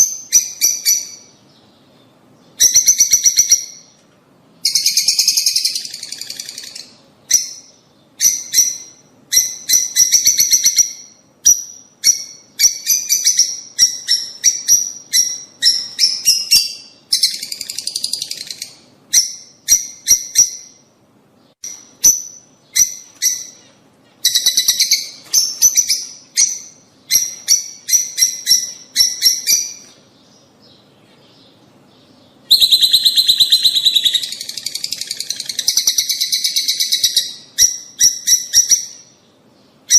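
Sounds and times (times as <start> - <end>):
lovebirds chattering: 4.6 - 20.9, 21.6 - 39.9.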